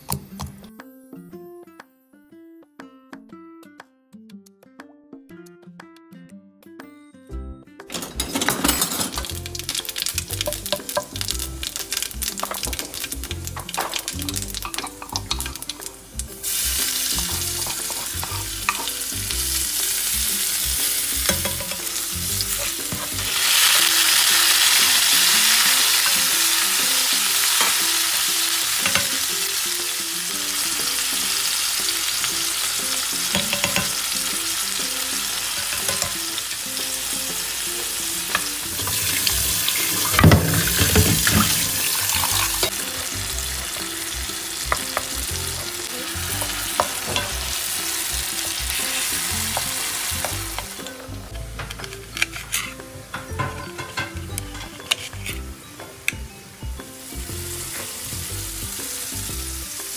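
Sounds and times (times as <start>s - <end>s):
food sizzling in frying pan: 9.0s - 59.9s.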